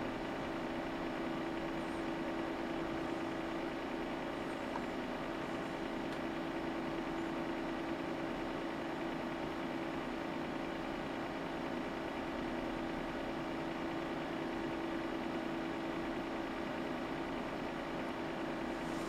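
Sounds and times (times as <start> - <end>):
test equipment humming: 0.0 - 19.0.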